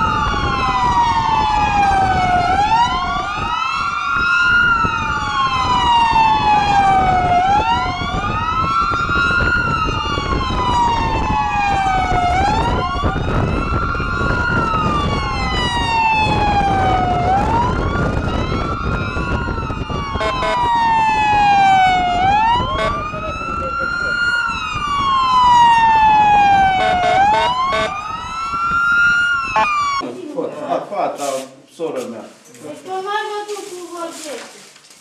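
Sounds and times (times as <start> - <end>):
police sirens wailing: 0.0 - 30.0
road and engine noise: 0.0 - 35.0.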